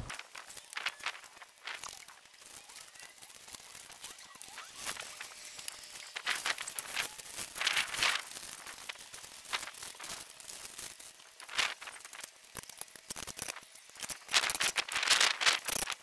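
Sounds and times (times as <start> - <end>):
dry mix poured onto gravel: 0.0 - 16.0.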